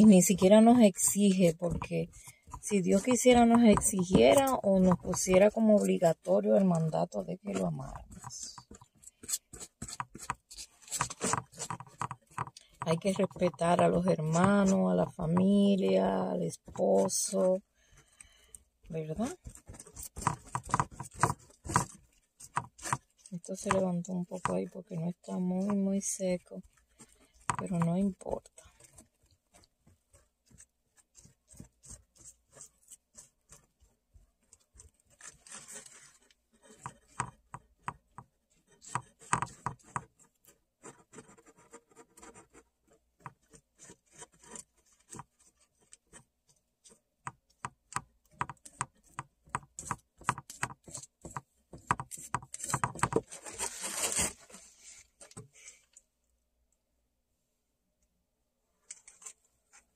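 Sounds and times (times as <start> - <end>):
paintbrush tapping on crinkling foil: 0.0 - 53.4.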